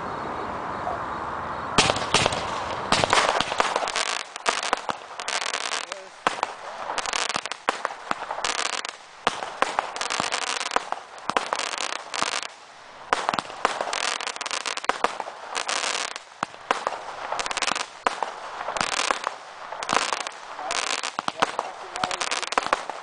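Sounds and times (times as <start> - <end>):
firework barrage crackling: 1.8 - 23.0.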